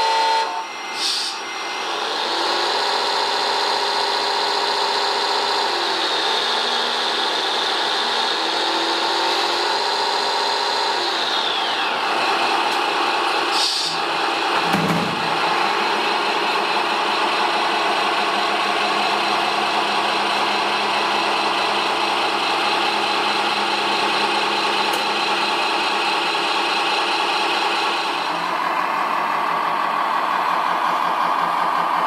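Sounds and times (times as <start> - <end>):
model trucks engine drone: 0.0 - 32.0.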